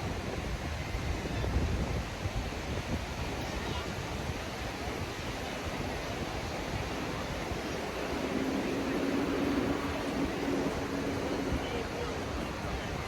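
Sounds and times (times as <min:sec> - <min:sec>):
surf washing on beach: 0:00.0 - 0:13.0
wind noise on microphone: 0:00.0 - 0:13.0.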